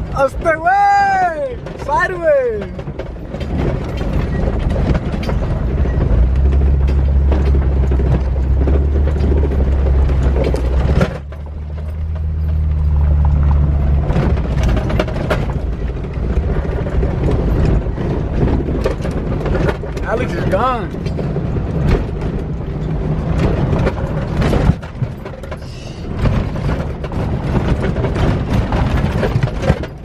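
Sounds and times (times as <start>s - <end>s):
car body rattling and knocking: 0.0s - 30.0s
engine pulling under load: 0.0s - 30.0s.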